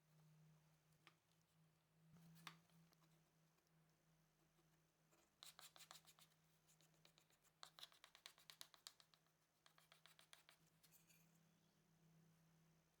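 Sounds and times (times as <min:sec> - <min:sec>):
faint rapid light clicks and scratches: 0:00.9 - 0:11.5.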